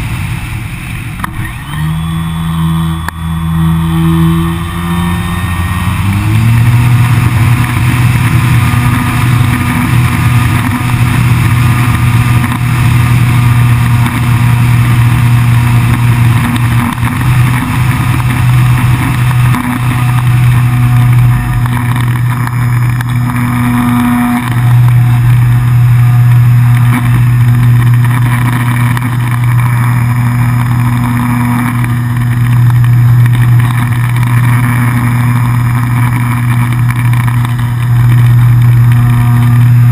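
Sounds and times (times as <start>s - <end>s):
electric motor and propeller drone: 0.0s - 39.9s.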